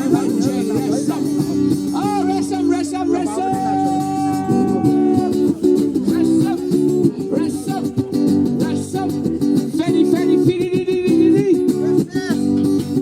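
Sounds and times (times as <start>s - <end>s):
plucked-string folk melody: 0.0s - 13.0s.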